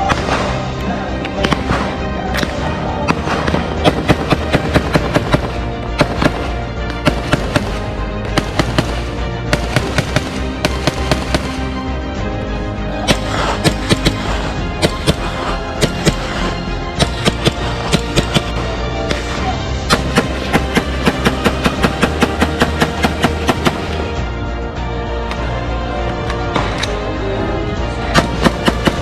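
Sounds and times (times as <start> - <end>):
gunfire: 0.0 - 11.8, 13.0 - 24.2, 28.1 - 29.0
music playing: 0.0 - 29.0.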